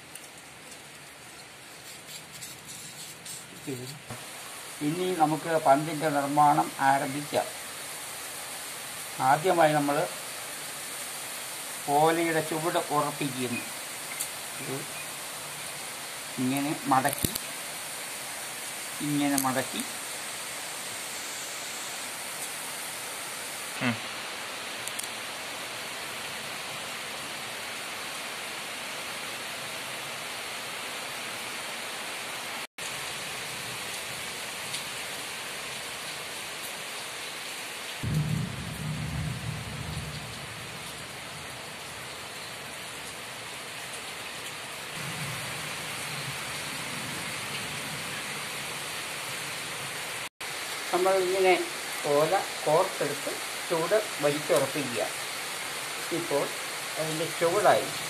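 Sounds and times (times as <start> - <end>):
steady hiss: 0.0 - 28.8, 32.1 - 58.0.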